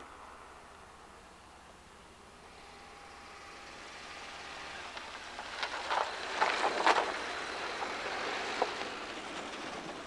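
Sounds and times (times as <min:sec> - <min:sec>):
car passing on road: 0:00.0 - 0:10.0.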